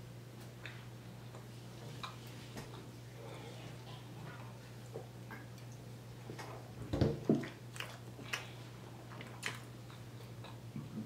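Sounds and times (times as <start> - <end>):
steady low hum: 0.0 - 11.0
chewing food: 0.6 - 6.7, 7.3 - 11.0.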